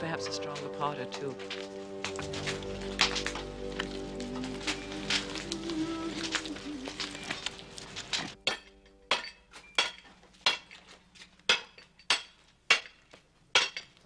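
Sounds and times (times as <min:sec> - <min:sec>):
hand tool clinking on stone: 0:00.5 - 0:14.0.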